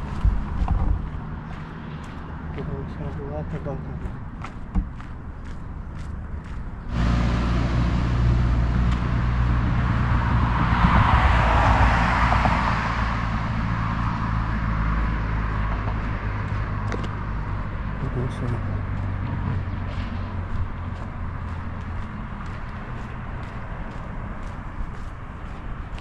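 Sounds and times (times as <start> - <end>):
road noise: 0.0 - 26.0
vehicle engine: 0.0 - 26.0.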